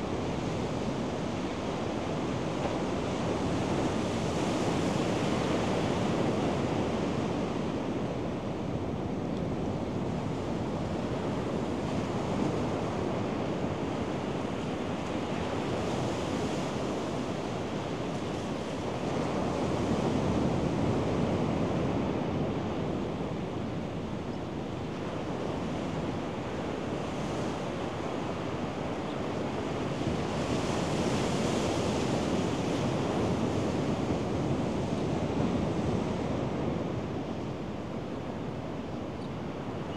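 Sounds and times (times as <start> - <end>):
ocean surf breaking on beach: 0.0 - 38.8.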